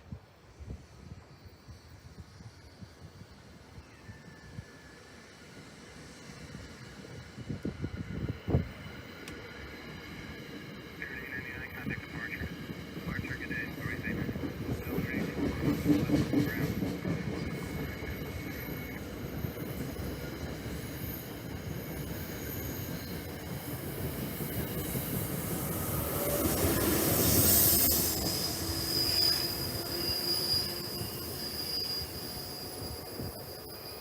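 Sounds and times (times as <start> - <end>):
train passing rumble: 0.0 - 34.0
wheels squealing on rails: 0.4 - 34.0.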